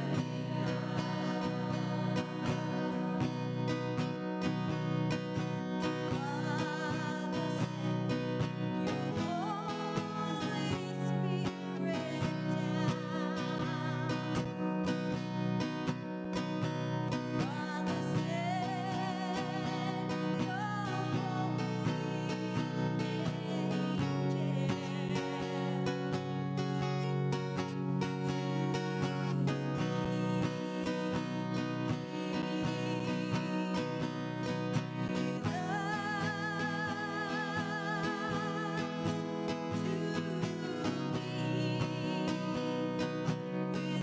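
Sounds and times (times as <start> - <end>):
acoustic guitar strumming: 0.0 - 44.0
person singing: 0.0 - 44.0.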